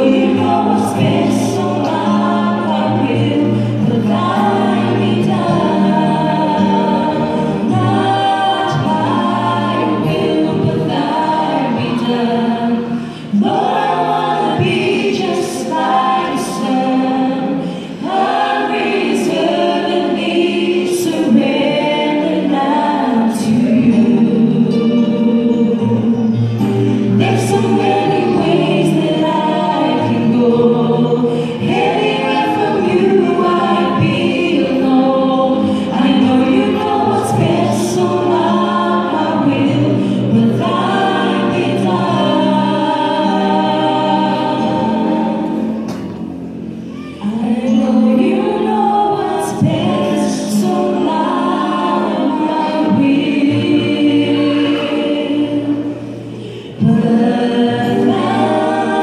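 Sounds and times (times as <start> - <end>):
women singing gospel in harmony: 0.0 - 59.0.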